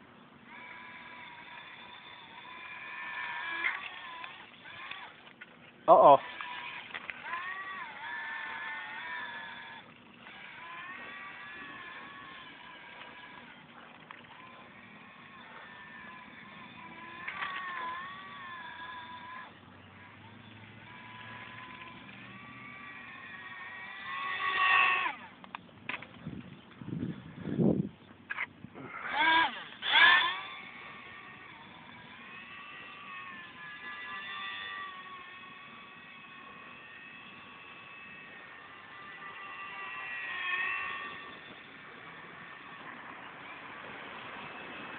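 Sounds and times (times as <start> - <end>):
model plane motor whining: 0.0 - 44.9.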